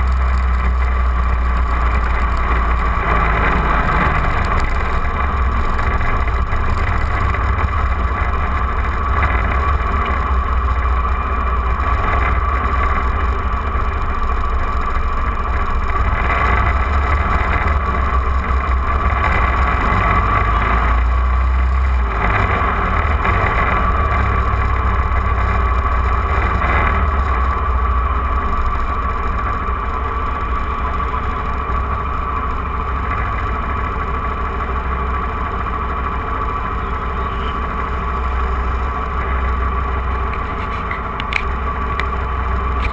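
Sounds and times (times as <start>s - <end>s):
motorcycle engine rumbling: 0.0s - 42.9s.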